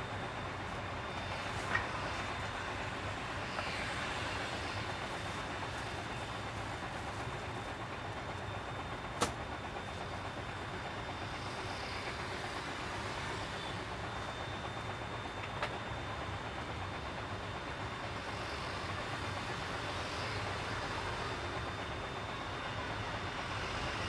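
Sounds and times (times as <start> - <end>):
truck engine and road noise: 0.0 - 24.0.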